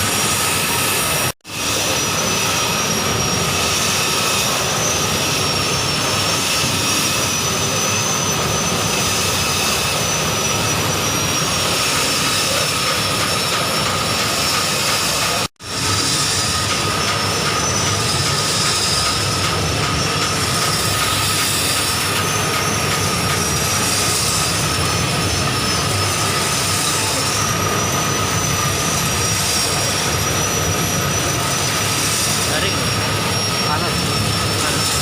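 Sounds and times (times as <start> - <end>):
machine air rushing: 0.0 - 35.0
thin high whine: 0.0 - 35.0.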